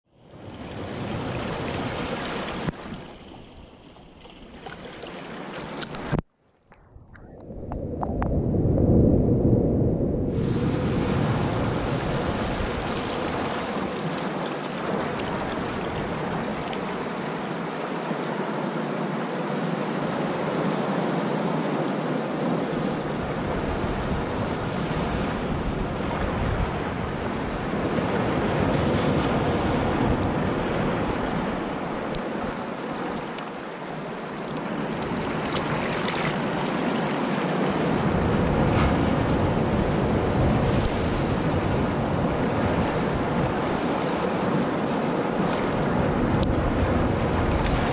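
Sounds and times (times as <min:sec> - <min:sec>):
surf washing over sand and rocks: 0:00.2 - 0:06.2, 0:07.3 - 0:47.9.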